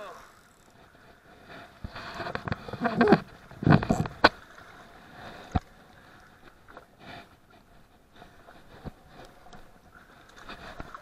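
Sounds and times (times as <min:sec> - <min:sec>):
clothing and gear rustling: 0:00.4 - 0:11.0.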